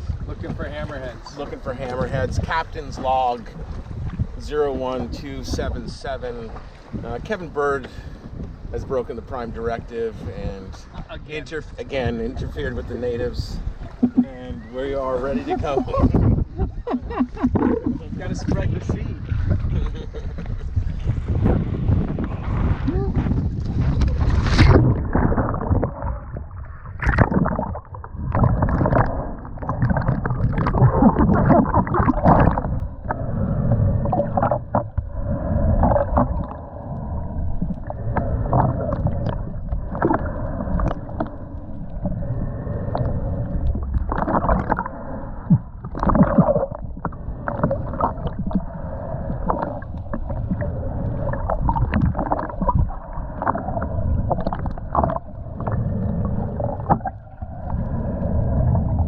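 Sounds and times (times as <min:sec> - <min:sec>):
muffled water sloshing: 0:00.0 - 0:59.0.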